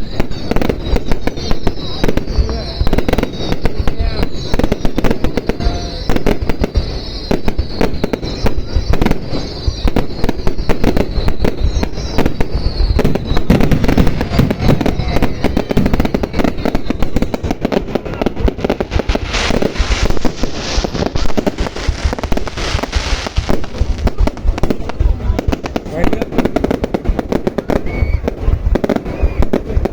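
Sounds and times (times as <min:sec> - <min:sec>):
firework whistles: 0:00.0 - 0:29.9
fireworks bangs and crackles: 0:00.0 - 0:29.9
high bright firework crackling: 0:00.0 - 0:29.9.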